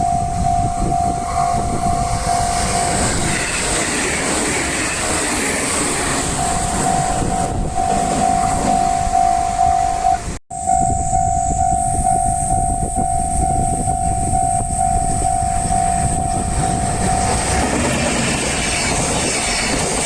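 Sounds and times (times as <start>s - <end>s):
level crossing warning bell: 0.0s - 18.2s
train wheels on rails: 0.0s - 20.0s.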